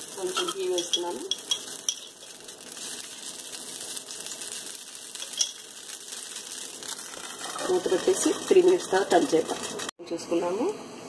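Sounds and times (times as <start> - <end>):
batter sizzling on hot griddle: 0.0 - 10.0.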